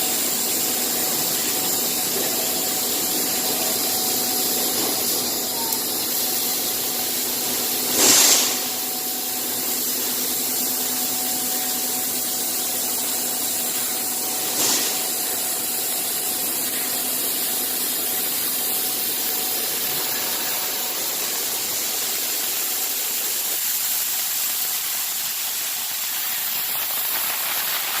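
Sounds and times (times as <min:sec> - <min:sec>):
bursts of hiss: 0:00.0 - 0:28.0
machine humming and hissing: 0:00.0 - 0:28.0.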